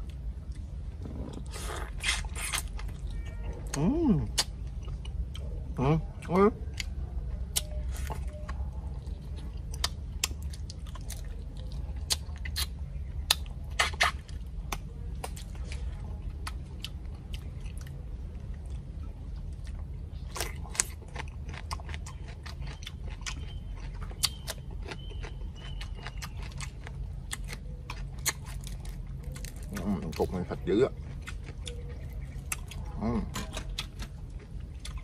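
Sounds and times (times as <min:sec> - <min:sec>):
chewing with crispy crunches: 0:00.0 - 0:35.0
steady low rumble: 0:00.0 - 0:35.0.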